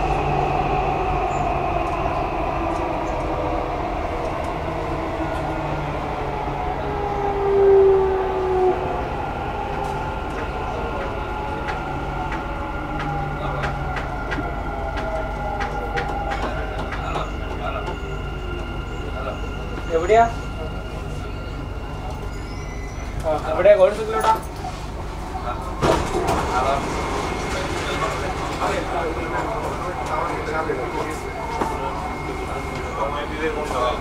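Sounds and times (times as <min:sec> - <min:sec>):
train rumble: 0:00.0 - 0:34.0.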